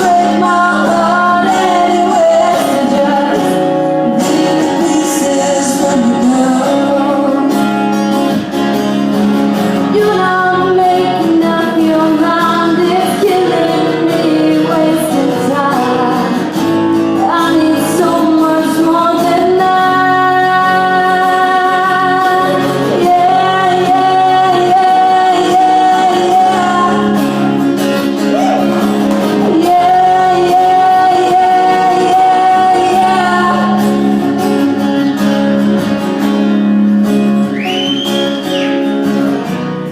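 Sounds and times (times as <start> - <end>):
woman singing country song: 0.0 - 39.8
acoustic guitar: 0.0 - 39.9.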